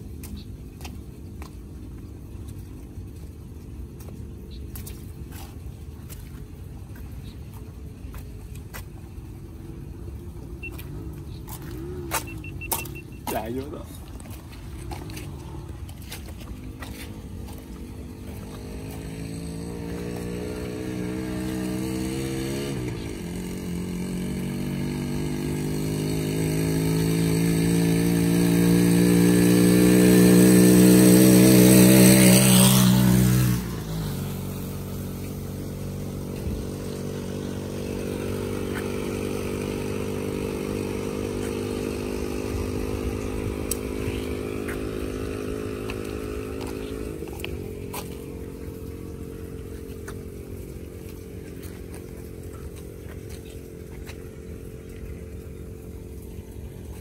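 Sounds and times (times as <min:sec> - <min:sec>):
faint engine hum: 0:00.0 - 0:57.0
small engine running: 0:00.0 - 0:57.0.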